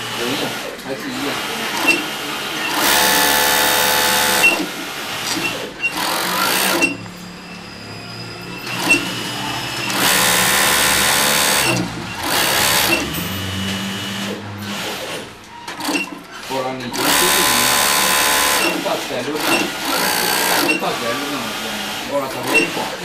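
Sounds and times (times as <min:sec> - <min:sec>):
sewing machine running: 0:00.0 - 0:07.4, 0:08.5 - 0:23.0.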